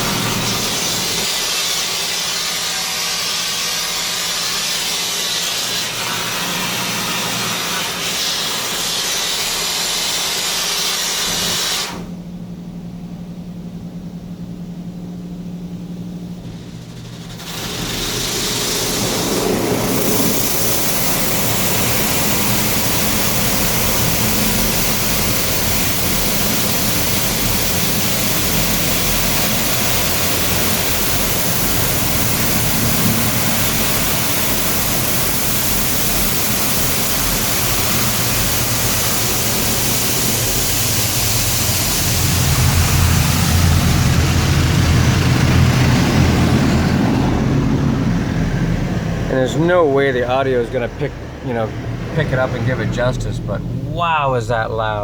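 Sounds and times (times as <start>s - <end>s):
water jets spraying on van: 0.0s - 12.0s, 16.8s - 53.0s.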